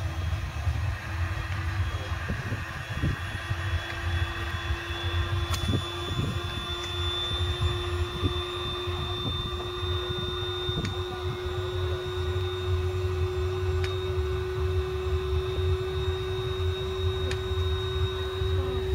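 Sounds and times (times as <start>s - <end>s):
electrical hum: 0.0s - 18.9s
faint high whine: 0.0s - 18.9s.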